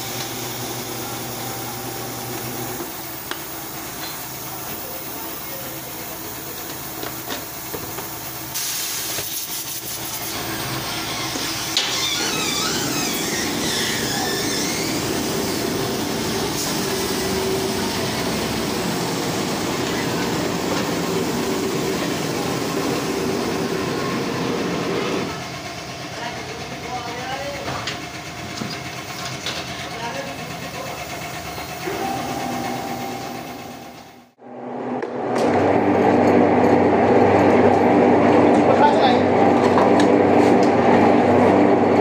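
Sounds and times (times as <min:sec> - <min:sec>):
machine running with hiss: 0:00.0 - 0:34.4.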